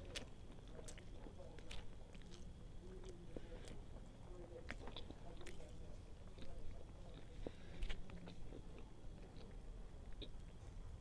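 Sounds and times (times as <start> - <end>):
chewing soft food: 0.0 - 11.0.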